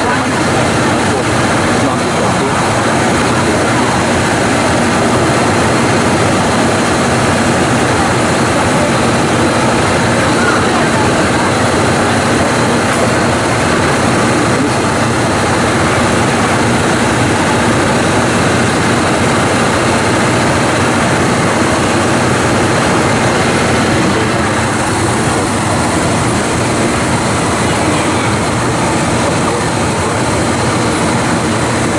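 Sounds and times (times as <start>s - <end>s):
diesel train engine idling: 0.0s - 31.9s.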